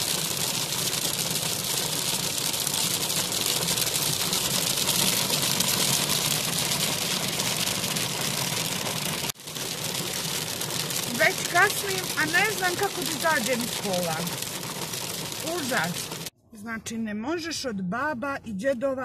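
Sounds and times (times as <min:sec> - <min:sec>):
hail pelting car roof: 0:00.0 - 0:16.3.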